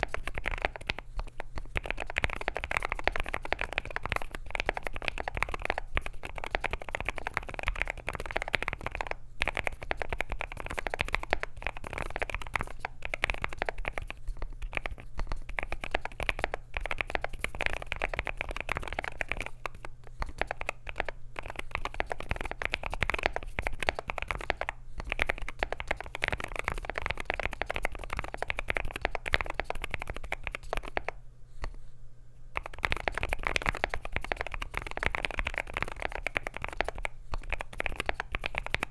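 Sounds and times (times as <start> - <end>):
mechanical keyboard typing: 0.0 - 1.0, 1.7 - 31.1, 32.6 - 38.9.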